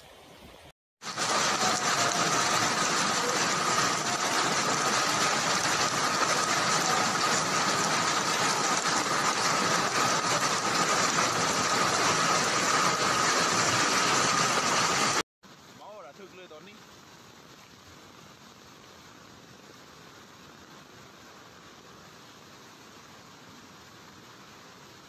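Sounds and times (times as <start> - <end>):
heavy rain hiss: 1.0 - 25.0.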